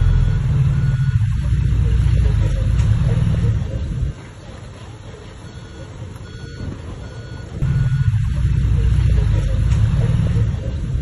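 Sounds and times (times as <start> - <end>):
reversing alarm beeps: 0.0 - 4.0, 5.3 - 10.6
diesel engine rumble: 0.0 - 11.0.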